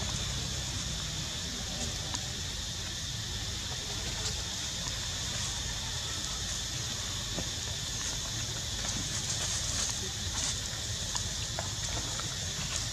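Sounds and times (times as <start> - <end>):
insect buzz: 0.0 - 12.9.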